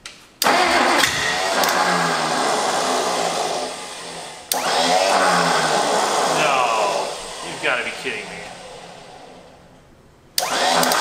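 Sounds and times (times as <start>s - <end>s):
engine cranking and firing: 0.4s - 11.0s.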